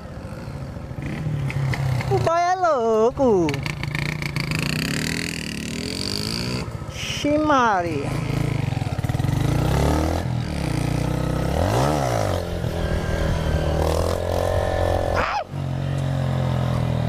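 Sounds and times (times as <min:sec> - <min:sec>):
motorcycle engines revving: 0:00.0 - 0:17.0
motorcycle passing by: 0:00.0 - 0:17.0.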